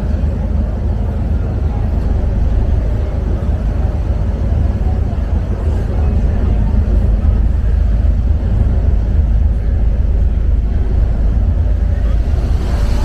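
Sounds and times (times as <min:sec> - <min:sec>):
ferry engine low rumble: 0:00.0 - 0:13.0.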